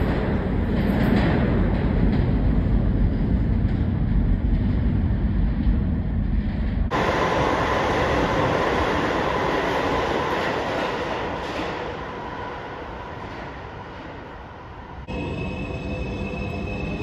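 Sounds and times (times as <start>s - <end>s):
rail noise with high hum: 0.0s - 17.0s
subway train rumbling: 0.0s - 17.0s.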